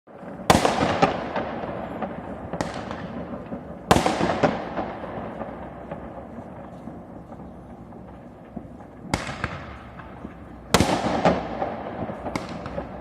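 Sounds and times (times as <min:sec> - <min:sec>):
fireworks bangs with echo: 0:00.1 - 0:13.0
fireworks pops: 0:00.2 - 0:13.0.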